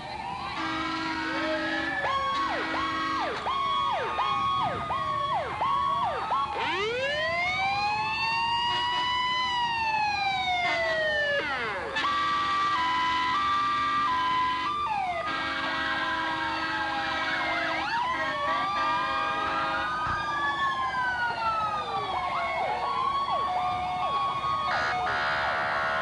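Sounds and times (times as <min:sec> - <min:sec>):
fire truck siren yelp: 0:00.0 - 0:26.0
siren wail rising and falling: 0:00.0 - 0:26.0
two-tone siren: 0:00.0 - 0:26.0.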